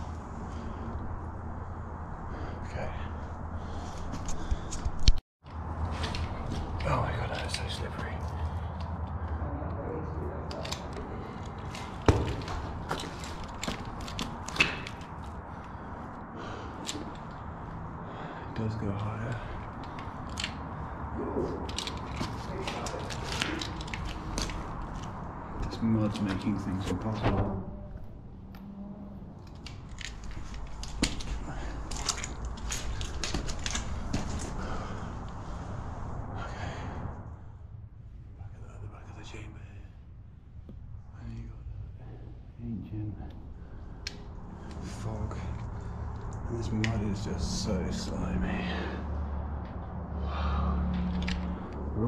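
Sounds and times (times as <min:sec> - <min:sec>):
low handling rumble: 0:05.5 - 0:52.0.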